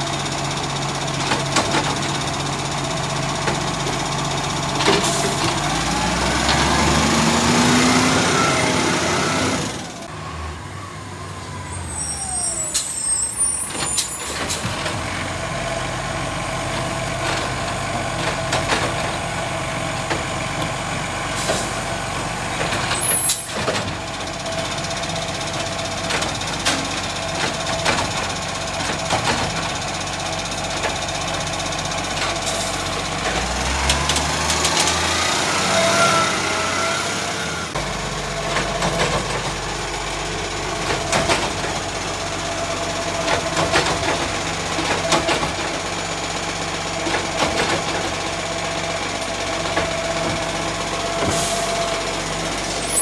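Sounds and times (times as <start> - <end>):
garbage truck diesel engine: 0.0 - 53.0.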